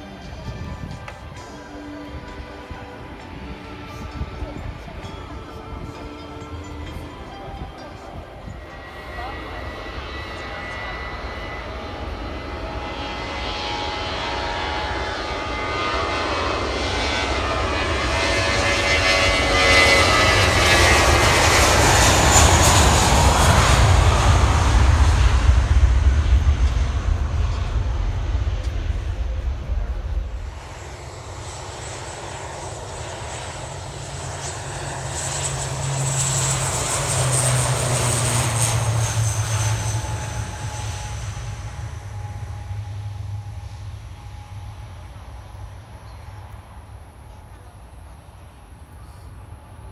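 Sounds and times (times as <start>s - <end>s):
airplane engines passing overhead: 0.0s - 49.9s.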